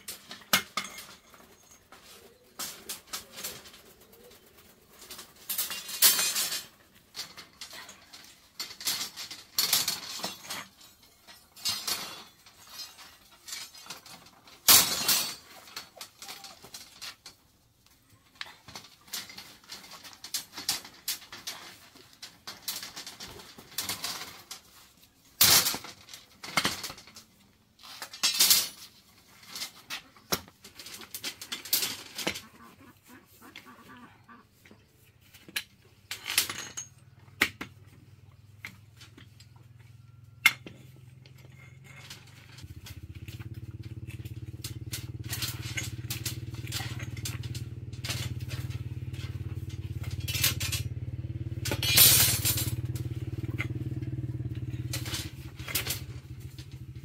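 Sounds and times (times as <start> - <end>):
hand tool scraping and clinking: 0.0 - 57.0.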